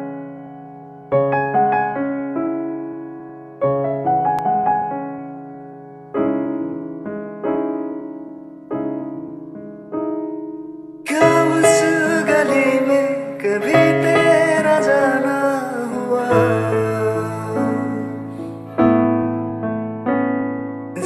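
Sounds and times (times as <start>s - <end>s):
fuller brighter accompaniment: 0.0s - 21.0s
slow piano chords: 0.0s - 21.0s.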